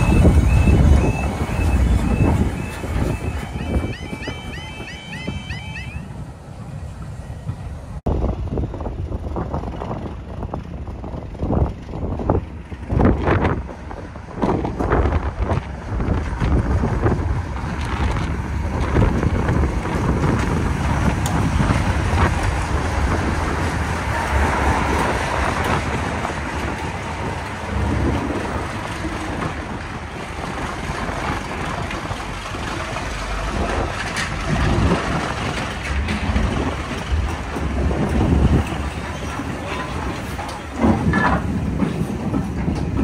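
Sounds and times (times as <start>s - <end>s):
diesel locomotive rumbling past: 0.0s - 43.0s.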